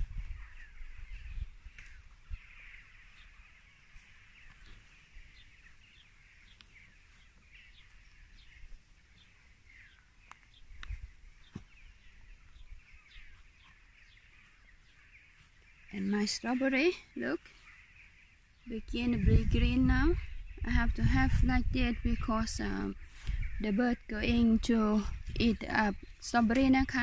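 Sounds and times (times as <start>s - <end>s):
birds calling faintly: 0.0s - 27.0s.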